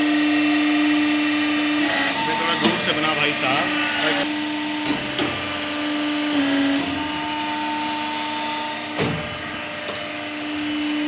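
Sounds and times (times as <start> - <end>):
hydraulic pump motor hum: 0.0 - 11.0.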